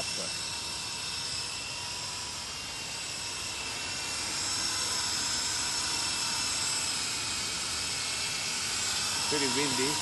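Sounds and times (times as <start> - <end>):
toy helicopter motor whine: 0.0 - 10.0.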